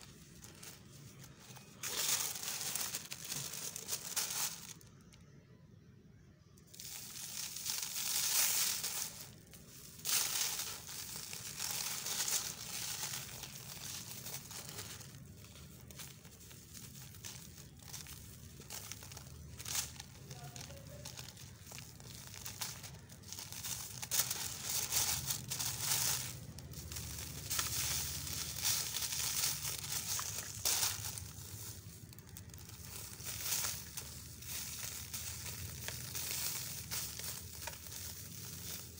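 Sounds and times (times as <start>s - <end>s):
paper crinkling: 0.0s - 5.2s, 6.7s - 38.9s
sand crumbling and crackling: 6.7s - 38.9s.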